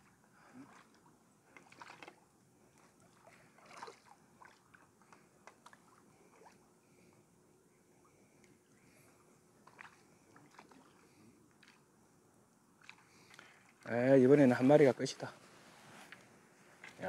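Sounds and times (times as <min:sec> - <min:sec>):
water lapping: 0:00.0 - 0:14.2.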